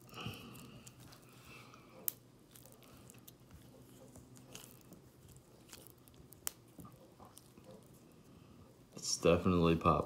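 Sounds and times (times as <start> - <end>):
putty squishing by hand: 0.0 - 8.1.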